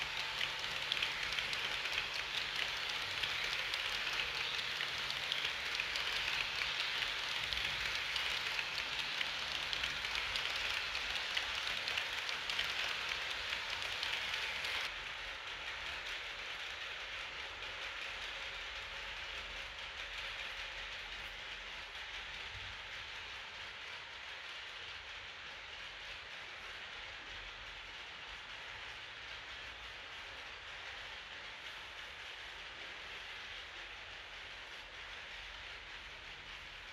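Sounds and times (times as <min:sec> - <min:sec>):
model train wheels rattling on rails: 0:00.0 - 0:36.9.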